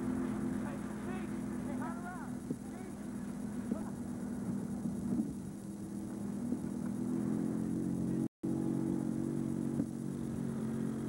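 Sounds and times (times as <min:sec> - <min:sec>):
all-terrain vehicle engine running: 0:00.0 - 0:11.0.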